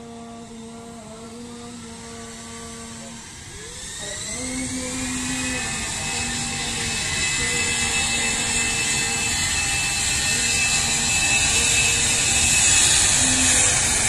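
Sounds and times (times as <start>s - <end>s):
jet airliner taking off: 0.0s - 14.0s.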